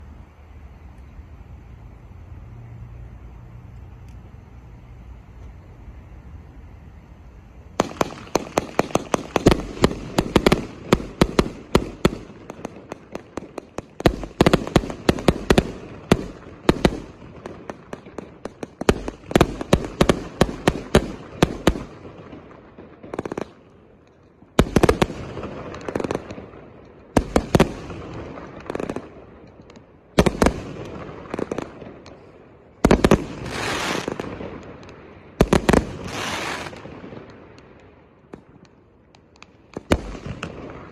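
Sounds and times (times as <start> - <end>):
hissing firework tails: 0.0 - 40.9
firework shots and bangs: 7.7 - 40.9.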